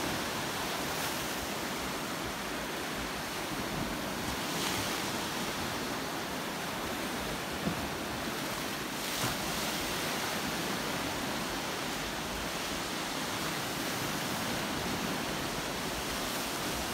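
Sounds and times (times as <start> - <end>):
waves splashing against shore: 0.0 - 16.9.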